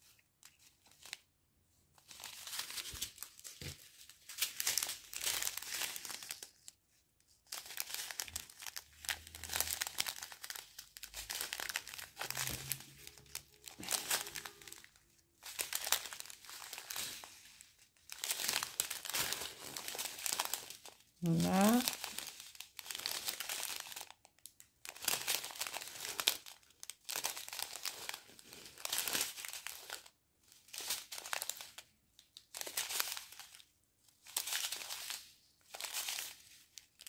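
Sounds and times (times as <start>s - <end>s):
plastic bags crinkling: 2.0s - 6.7s, 7.3s - 37.0s.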